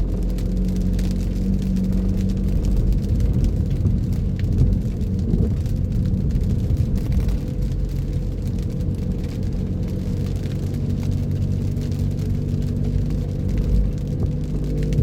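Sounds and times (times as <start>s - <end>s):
car engine and road noise: 0.0s - 15.0s
raindrops ticking: 0.0s - 15.0s.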